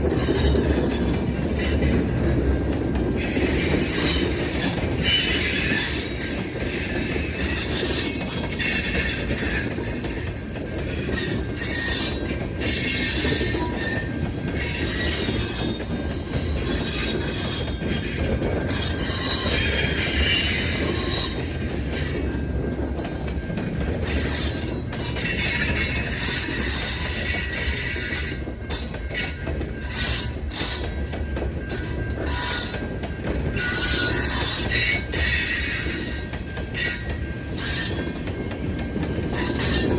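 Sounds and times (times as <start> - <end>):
train rumble: 0.0 - 39.9
train wheels squealing on rails: 0.0 - 39.9.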